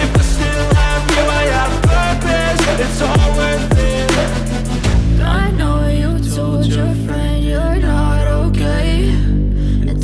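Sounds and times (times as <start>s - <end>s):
electronic music with pad and bass: 0.0s - 10.0s.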